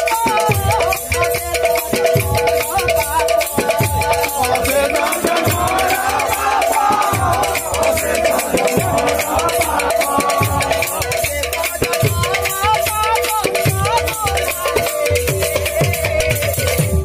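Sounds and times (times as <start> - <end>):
jingling hand cymbals: 0.0 - 17.0
person singing wavering melody: 0.0 - 17.0.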